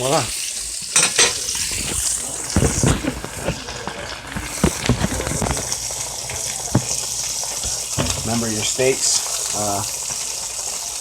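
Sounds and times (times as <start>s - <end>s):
steaks sizzling in a pan: 0.0s - 11.0s.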